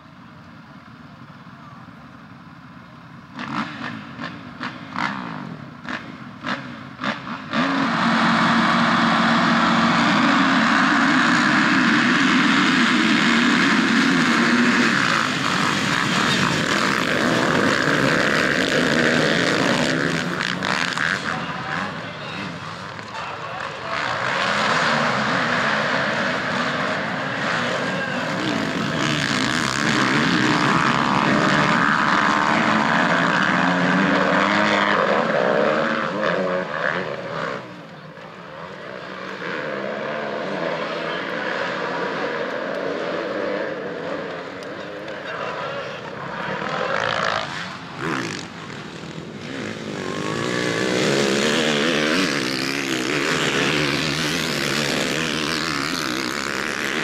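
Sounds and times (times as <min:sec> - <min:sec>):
motocross bikes revving: 0:02.2 - 0:57.0.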